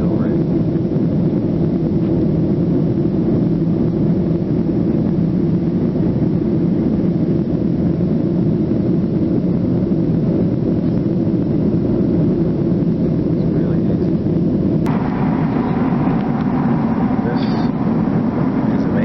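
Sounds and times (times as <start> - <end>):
airliner cabin engine hum: 0.0 - 19.0.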